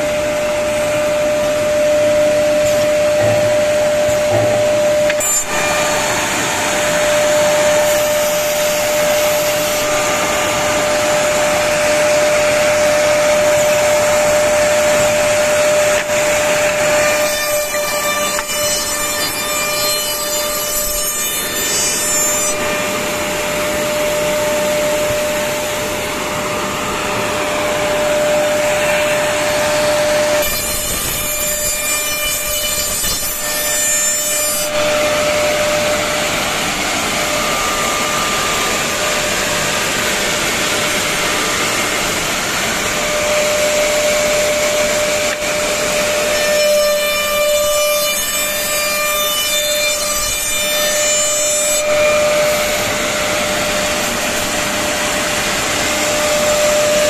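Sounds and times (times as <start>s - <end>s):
cutters machining wood: 0.0s - 57.0s.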